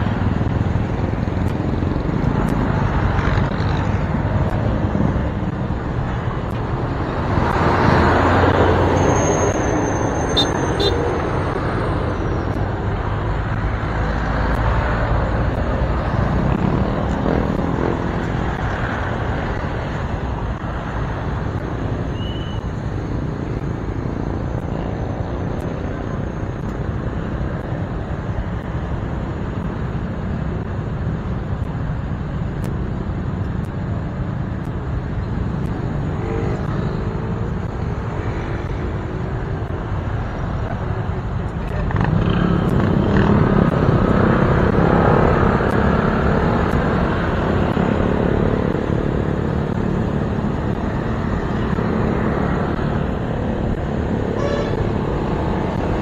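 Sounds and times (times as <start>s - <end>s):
city traffic noise: 0.0s - 56.0s.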